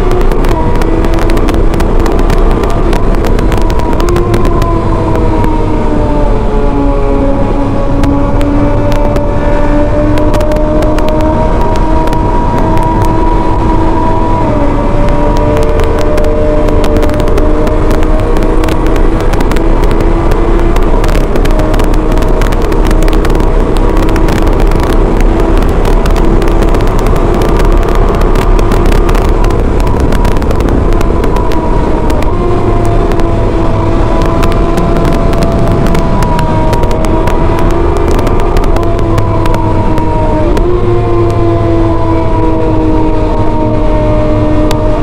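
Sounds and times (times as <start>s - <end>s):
motorcycle engine running: 0.0s - 45.0s
wind noise: 0.0s - 45.0s.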